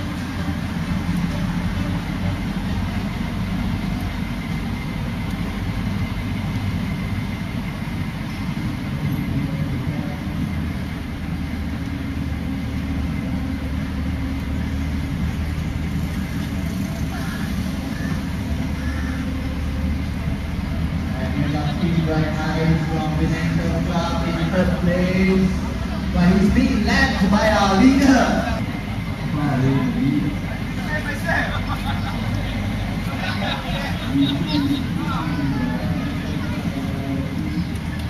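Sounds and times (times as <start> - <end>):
vehicle engine and road rumble: 0.0 - 38.0.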